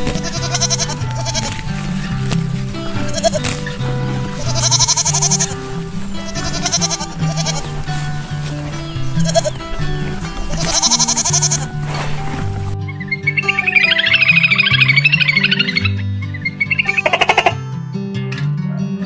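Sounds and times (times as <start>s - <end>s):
animal bleating: 0.0s - 17.6s
background music: 0.0s - 19.0s.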